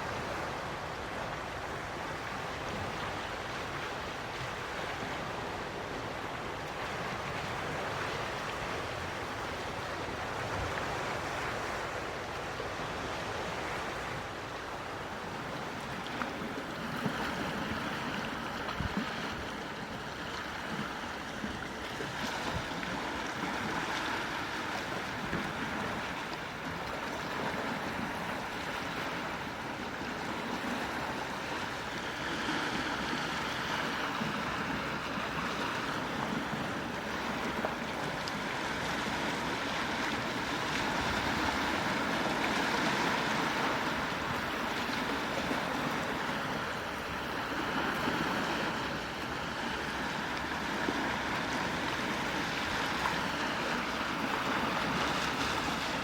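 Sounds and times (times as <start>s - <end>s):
waves washing onto a shore: 0.0s - 56.0s.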